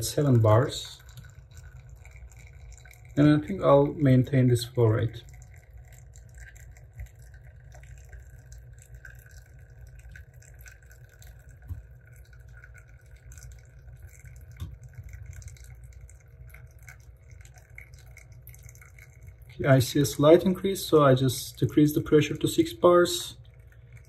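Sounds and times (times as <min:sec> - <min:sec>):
espresso trickling into glass cup: 0:00.0 - 0:24.0.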